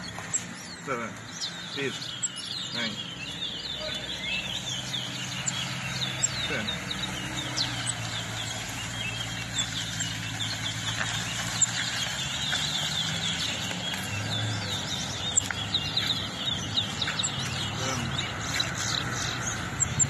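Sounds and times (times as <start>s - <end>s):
finches chirping and twittering: 0.0s - 20.0s.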